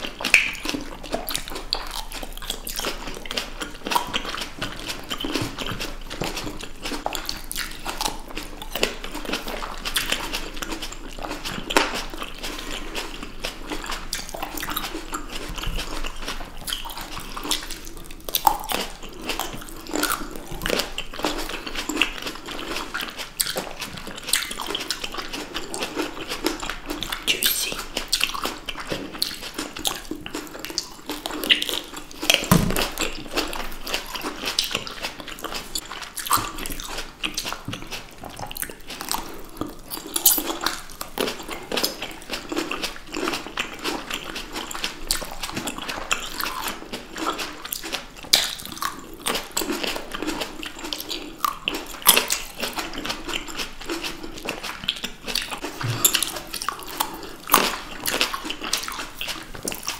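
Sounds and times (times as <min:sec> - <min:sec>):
people chewing grapes: 0:00.0 - 0:59.9.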